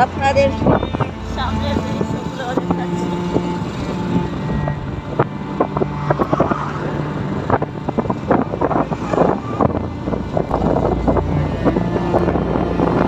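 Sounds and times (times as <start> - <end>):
motorcycle engine hum: 0.0 - 13.0
wind buffeting microphone: 0.0 - 13.0.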